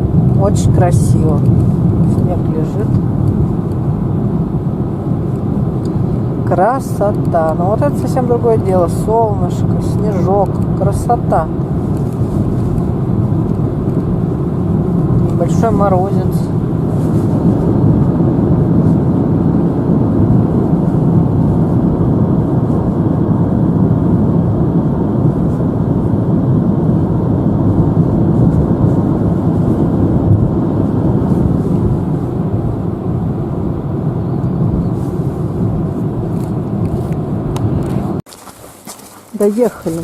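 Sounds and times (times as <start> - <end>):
car cabin road and engine drone: 0.0 - 40.0.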